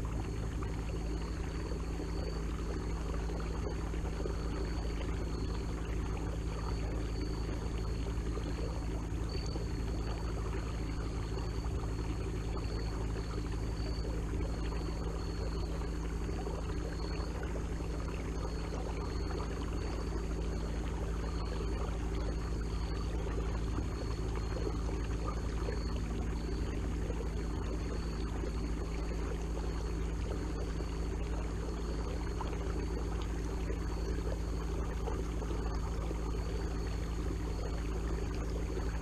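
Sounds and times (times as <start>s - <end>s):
high wavering whine: 0.0s - 39.0s.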